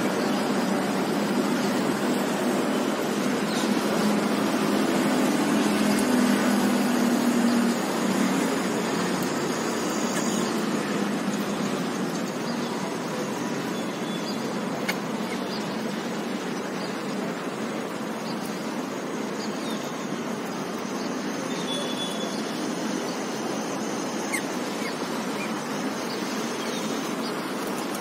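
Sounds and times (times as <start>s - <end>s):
road traffic hiss: 0.0s - 28.0s.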